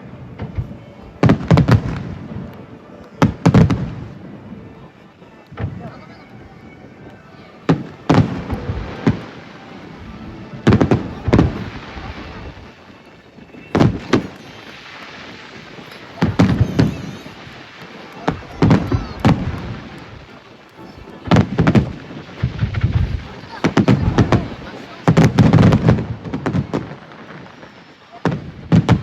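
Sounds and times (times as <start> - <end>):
firework booms: 0.2 - 2.6, 3.2 - 4.6, 5.5 - 6.0, 7.7 - 29.0.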